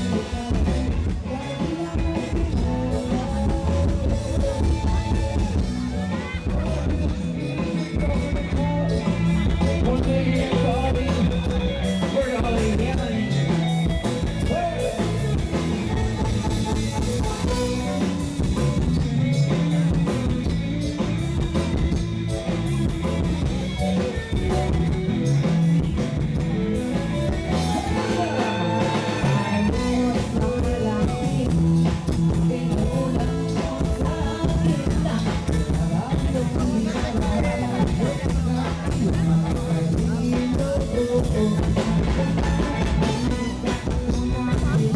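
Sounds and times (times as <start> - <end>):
rock music with singing: 0.0 - 44.9.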